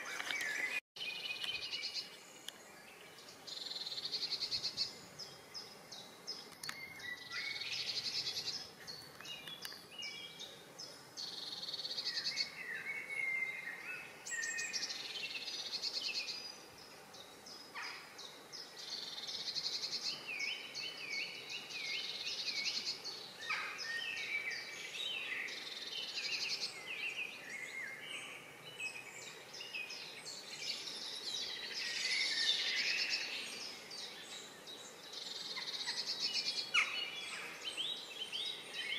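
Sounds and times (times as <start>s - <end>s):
faint hiss: 0.0s - 38.9s
songbirds singing: 0.0s - 38.9s.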